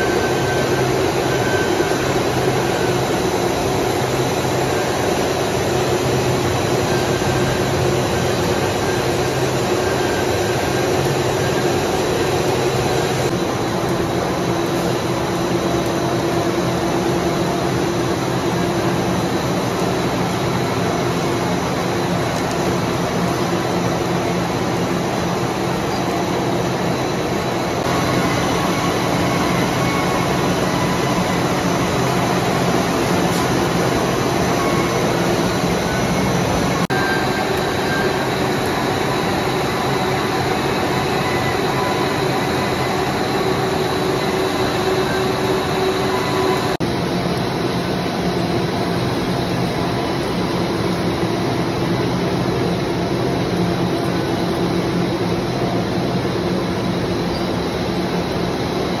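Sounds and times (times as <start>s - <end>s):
factory machines mechanical din: 0.0s - 59.0s.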